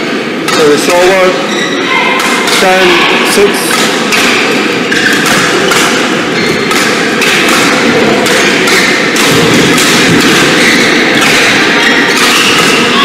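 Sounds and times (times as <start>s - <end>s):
noisy hall din: 0.0s - 13.0s.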